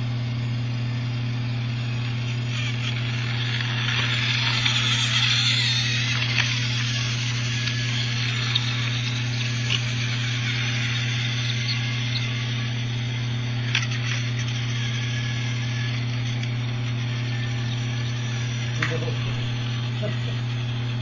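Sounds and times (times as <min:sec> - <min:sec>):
toy train motors whirring: 0:01.6 - 0:21.0.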